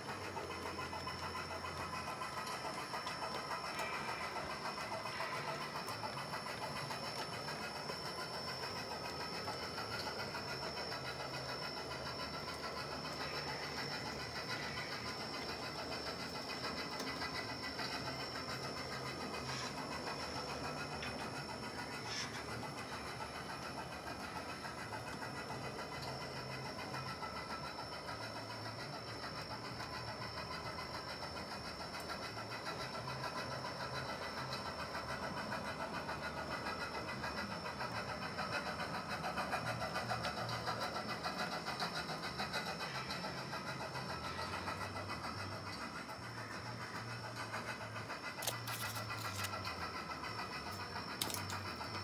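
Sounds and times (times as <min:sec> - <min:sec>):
model train whirring on track: 0:00.0 - 0:52.0.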